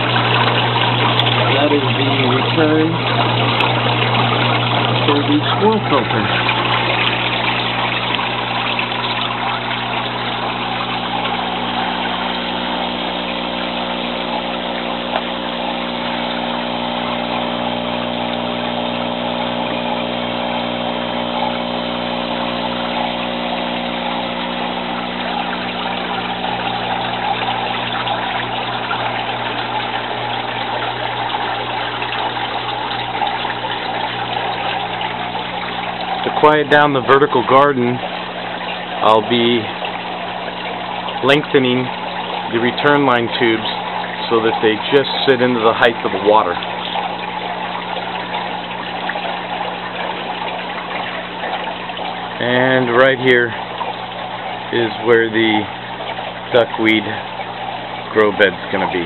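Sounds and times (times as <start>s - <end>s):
water pump humming: 0.0s - 59.0s
water splashing into tank: 0.0s - 59.0s.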